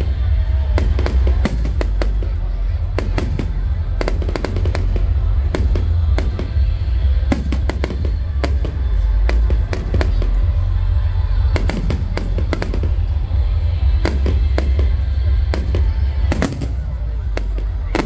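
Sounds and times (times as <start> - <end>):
fireworks bangs and cracks: 0.0 - 18.0
steady low rumble: 0.0 - 18.0.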